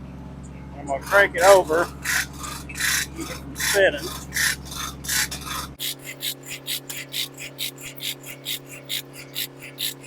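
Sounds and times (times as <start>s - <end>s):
sawmill machinery clacking: 0.8s - 10.0s.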